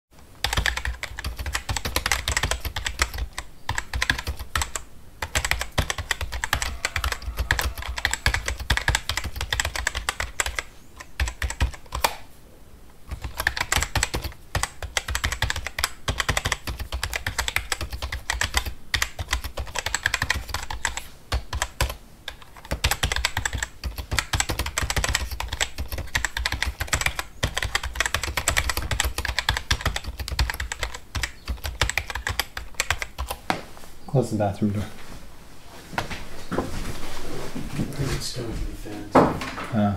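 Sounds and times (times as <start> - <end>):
fast typing on computer keyboard: 0.4 - 12.2, 13.1 - 33.4.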